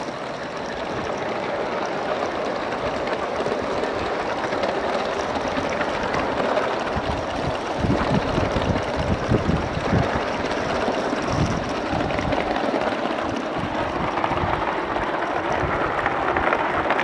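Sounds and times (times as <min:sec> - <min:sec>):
wheels on rails: 0:00.0 - 0:17.0.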